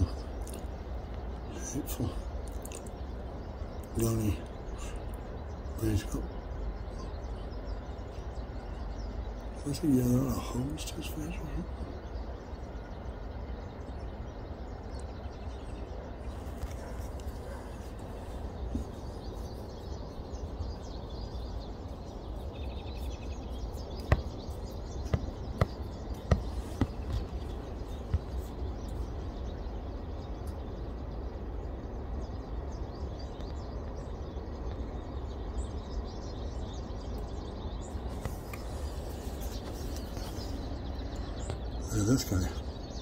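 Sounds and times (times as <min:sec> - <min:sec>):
faint bird chirps: 0:00.0 - 0:43.0.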